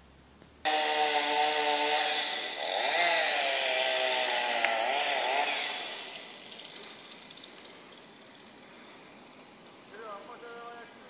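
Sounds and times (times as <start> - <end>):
small engine running: 0.6 - 10.2.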